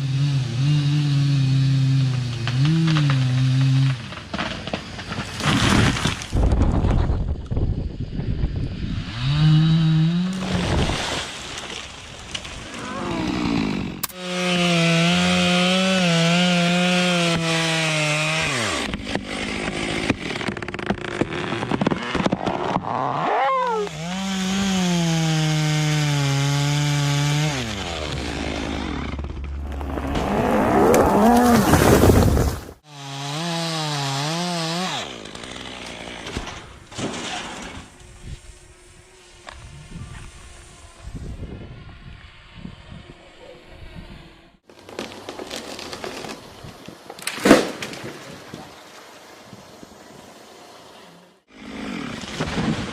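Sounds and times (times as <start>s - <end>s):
chainsaws cutting tree trunks: 0.0s - 6.6s, 8.8s - 39.7s, 44.1s - 52.9s.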